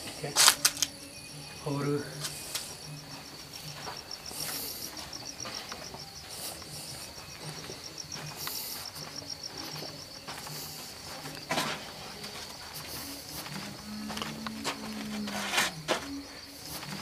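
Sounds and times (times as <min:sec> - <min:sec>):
crickets chirping: 0:00.0 - 0:17.0
footsteps on dirt floor: 0:00.0 - 0:17.0.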